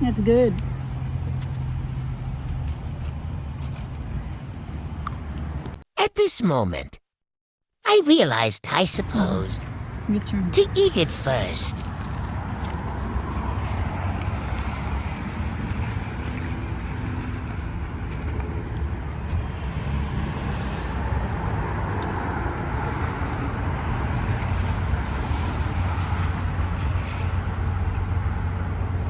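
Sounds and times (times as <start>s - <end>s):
vehicle rumble: 0.0s - 5.8s, 9.0s - 29.0s.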